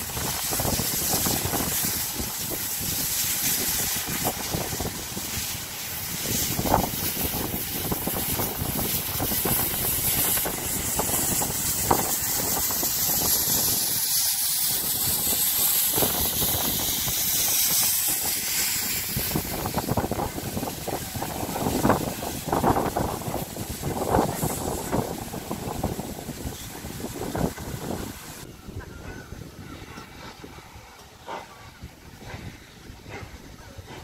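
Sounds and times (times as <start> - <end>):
hiss of steam: 0.0 - 34.0
steam locomotive moving slowly: 0.0 - 34.0.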